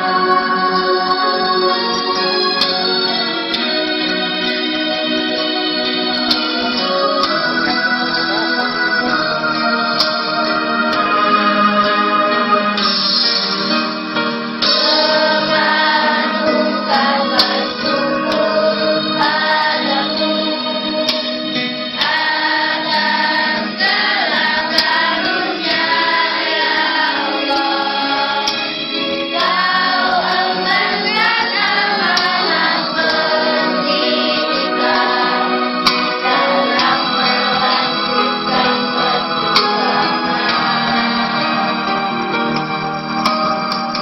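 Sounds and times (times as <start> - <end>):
choir singing: 0.0 - 43.2
keyboard chords: 0.0 - 44.0.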